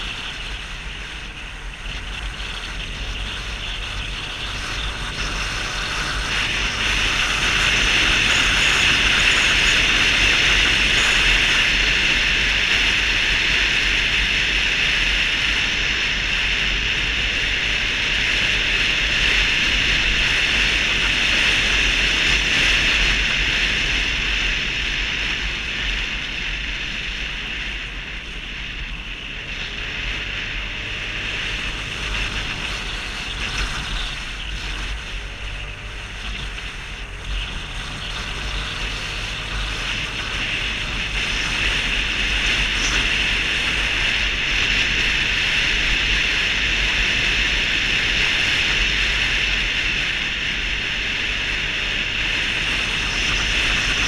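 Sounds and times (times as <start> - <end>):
scooter engine low drone: 0.0 - 54.0
wind rushing over microphone: 0.0 - 54.0.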